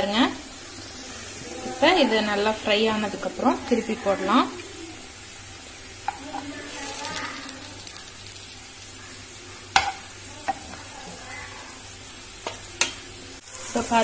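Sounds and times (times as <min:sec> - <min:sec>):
patties sizzling in oil: 0:00.0 - 0:14.0.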